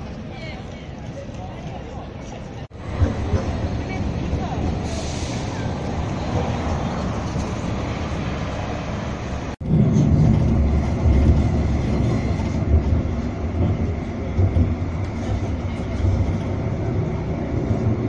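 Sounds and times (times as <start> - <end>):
city street traffic: 0.0 - 18.0
tram rumbling on track: 0.0 - 18.0.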